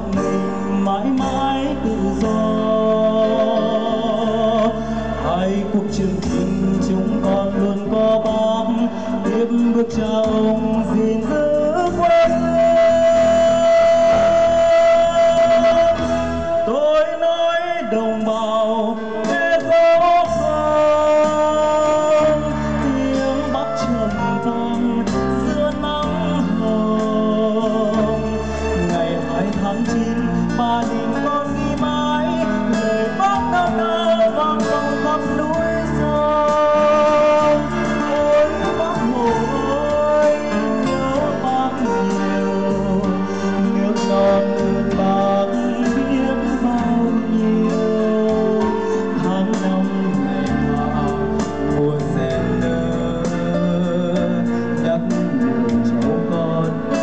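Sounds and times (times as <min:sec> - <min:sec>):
live band playing: 0:00.0 - 0:57.0
man singing into a microphone: 0:00.0 - 0:57.0.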